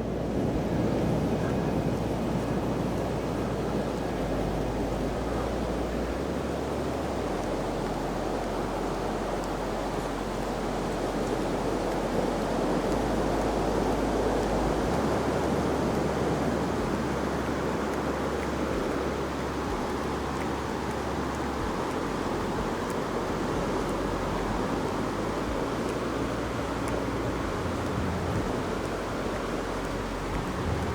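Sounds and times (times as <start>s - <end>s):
ocean surf washing onto beach: 0.0s - 30.9s
wind rumble on microphone: 0.0s - 30.9s.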